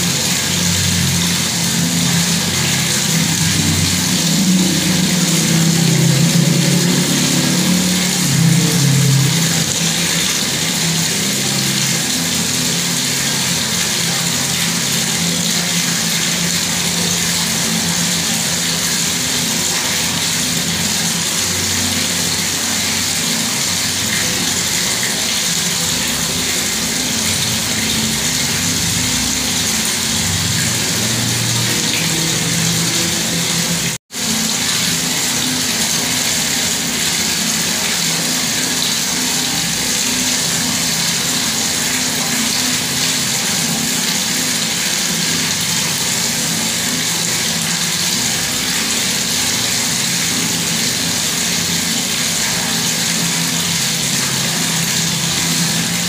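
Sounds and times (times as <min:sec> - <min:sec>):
water running from a tap: 0:00.0 - 0:56.0.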